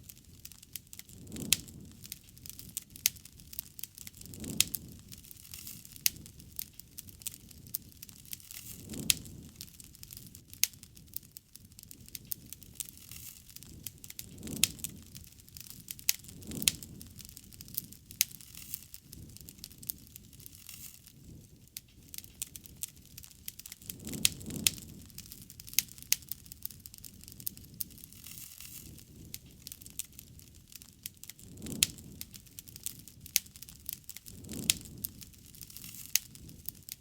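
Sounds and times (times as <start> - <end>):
campfire crackling: 0.0 - 37.0
fire pops and snaps: 0.0 - 37.0
flames swelling softly: 0.0 - 37.0.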